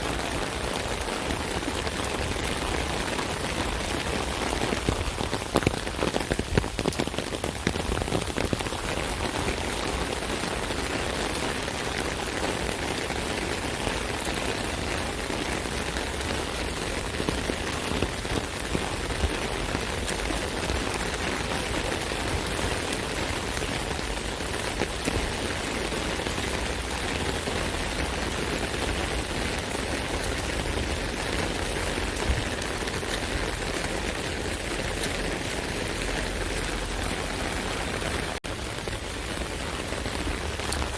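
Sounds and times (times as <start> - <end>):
rain drumming on an umbrella: 0.0 - 40.9.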